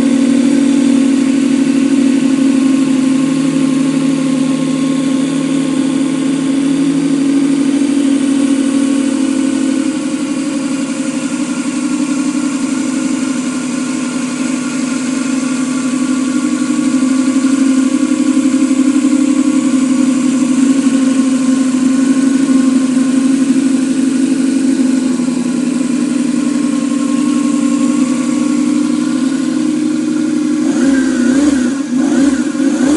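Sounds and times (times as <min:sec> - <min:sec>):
model engine running at fast idle: 0:00.0 - 0:32.9.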